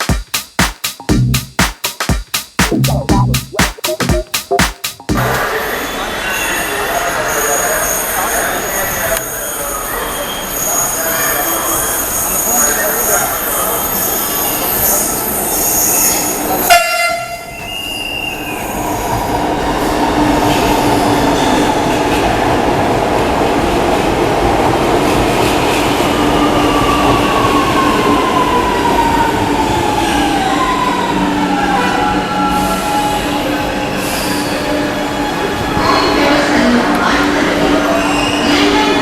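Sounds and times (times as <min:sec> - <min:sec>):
wheels squealing on rails: 0:05.4 - 0:39.0.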